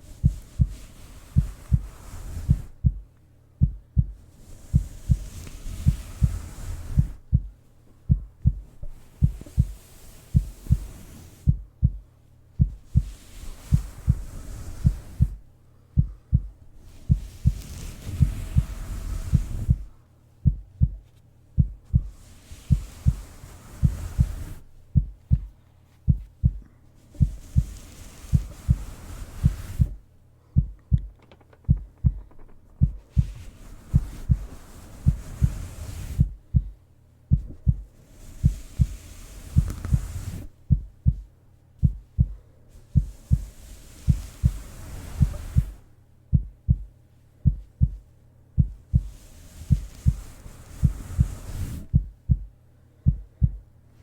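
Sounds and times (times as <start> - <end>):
soft swishing hiss: 0.0 - 54.0
heartbeat thumping: 0.2 - 39.0, 39.6 - 43.5, 44.1 - 53.8.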